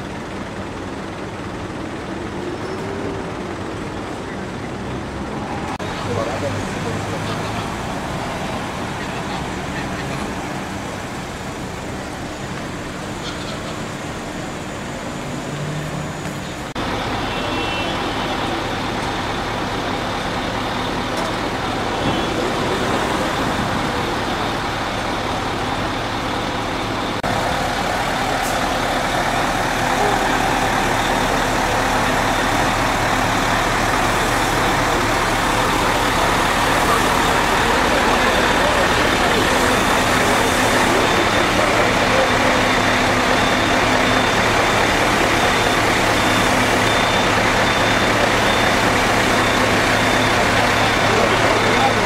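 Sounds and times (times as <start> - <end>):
fire truck engines running: 0.0 - 52.0
street traffic: 0.0 - 52.0
crowd voices: 1.9 - 15.4, 16.2 - 52.0.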